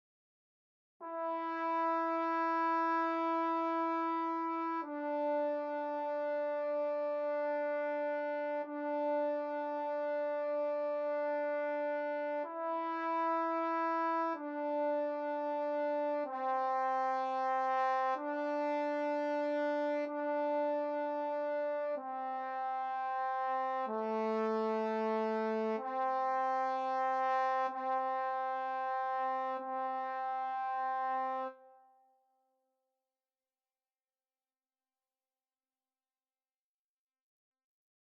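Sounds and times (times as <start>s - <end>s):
trombone playing long notes: 1.0s - 31.8s.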